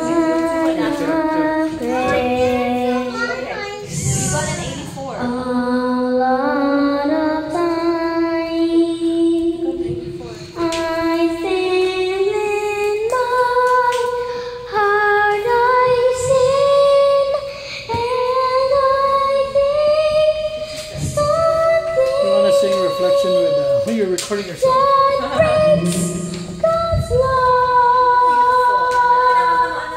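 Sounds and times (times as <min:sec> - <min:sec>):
girl singing unaccompanied: 0:00.0 - 0:29.9.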